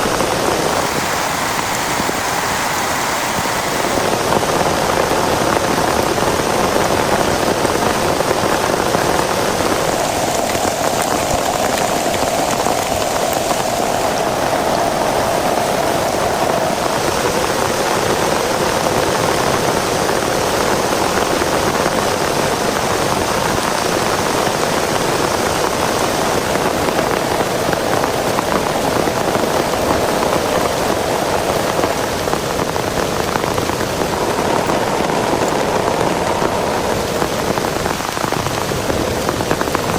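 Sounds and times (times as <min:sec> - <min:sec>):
heavy rain falling: 0:00.0 - 0:19.3, 0:19.9 - 0:39.9.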